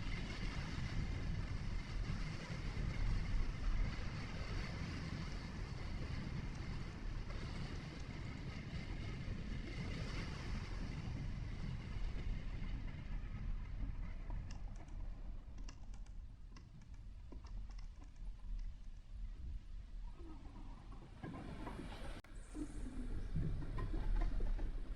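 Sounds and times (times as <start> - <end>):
vehicle engine and tyres rumbling: 0.0 - 24.9.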